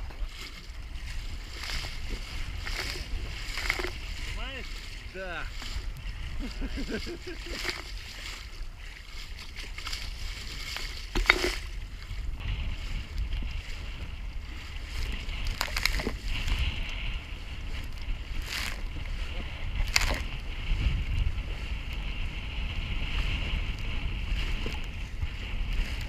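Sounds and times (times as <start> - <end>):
waves splashing against boat: 0.0 - 26.0
wind buffeting microphone: 0.0 - 26.0.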